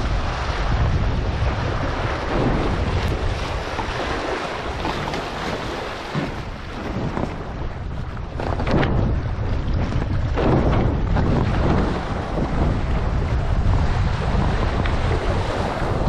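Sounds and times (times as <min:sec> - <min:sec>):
water splashing against board: 0:00.0 - 0:16.0
wind buffeting microphone: 0:00.0 - 0:16.0.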